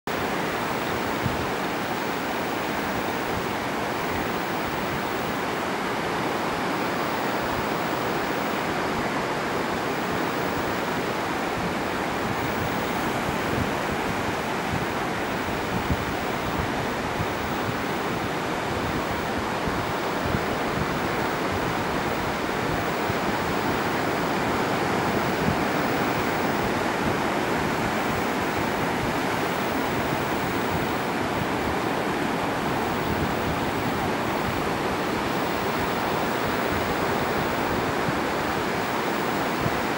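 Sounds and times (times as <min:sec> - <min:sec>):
sea surf washing on shore: 0:00.1 - 0:39.9.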